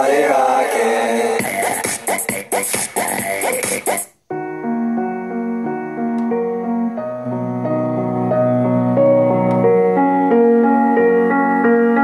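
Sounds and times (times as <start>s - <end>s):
keyboard melody through speaker: 1.4s - 12.0s.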